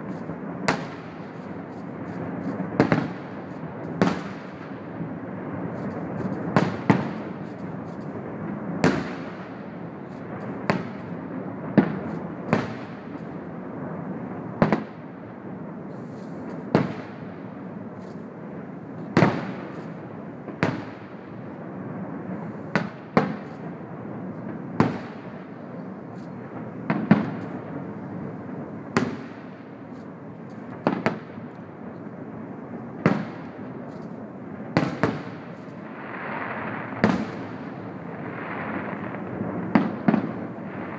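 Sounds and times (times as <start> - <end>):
steady background noise: 0.0 - 40.9.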